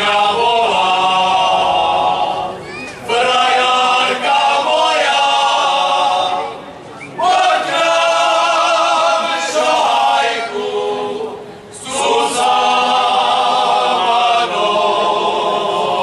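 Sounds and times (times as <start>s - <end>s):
men's choir singing unaccompanied: 0.0s - 16.0s.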